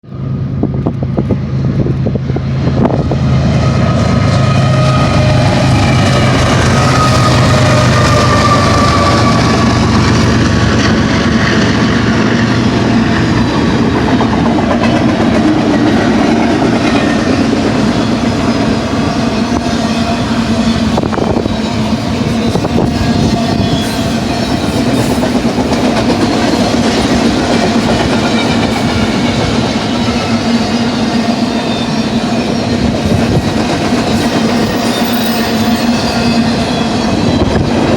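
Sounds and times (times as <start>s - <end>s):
train wheels rumbling on rails: 0.0s - 37.9s
locomotive engine humming: 0.1s - 37.9s.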